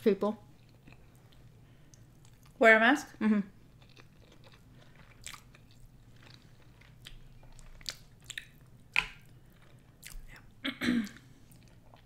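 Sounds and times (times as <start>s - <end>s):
chewing and mouth sounds: 0.6s - 2.6s, 3.7s - 12.0s.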